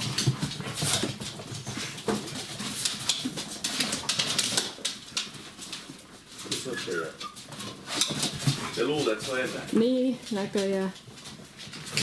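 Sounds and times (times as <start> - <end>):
puppies scuffling: 0.0 - 12.0.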